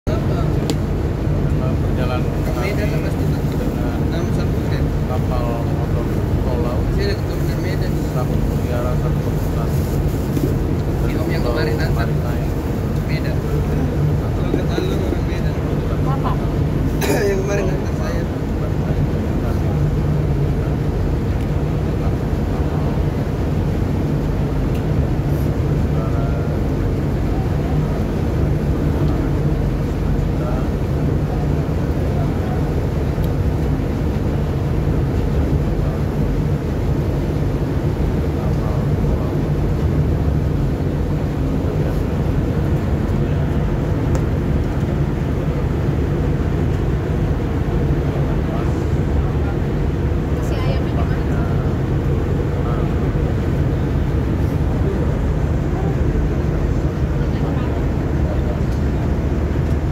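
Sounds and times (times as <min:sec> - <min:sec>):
ship engines droning: 0:00.1 - 0:59.9.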